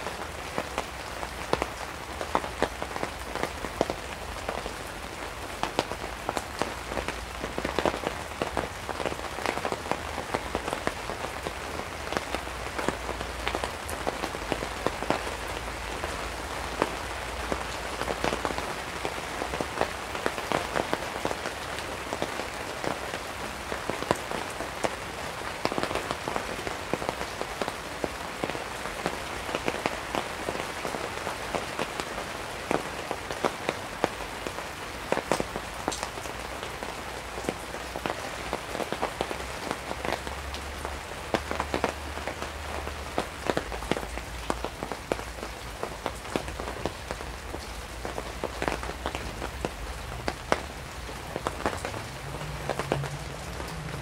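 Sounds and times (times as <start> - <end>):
heavy rain on a tarp: 0.0 - 54.0.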